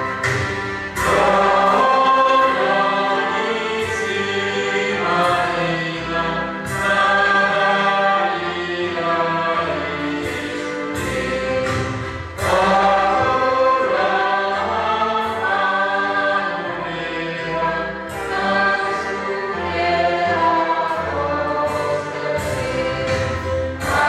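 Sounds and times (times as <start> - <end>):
group singing a hymn in harmony: 0.0 - 24.0
low accompaniment: 0.0 - 24.0.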